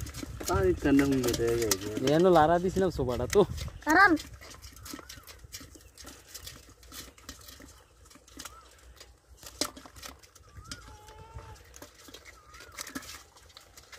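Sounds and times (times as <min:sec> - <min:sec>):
wet fish clicking in plastic crate: 0:00.0 - 0:13.9
birds chirping: 0:00.4 - 0:13.9.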